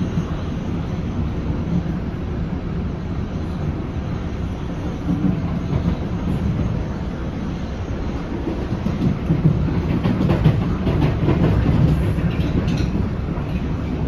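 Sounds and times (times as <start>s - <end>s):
railcar wheels rumbling on rails: 0.0s - 14.0s.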